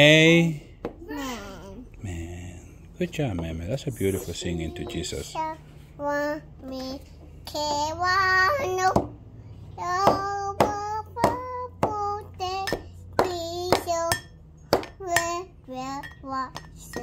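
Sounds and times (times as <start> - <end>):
toddler singing wordlessly: 1.0 - 2.0, 4.1 - 17.0.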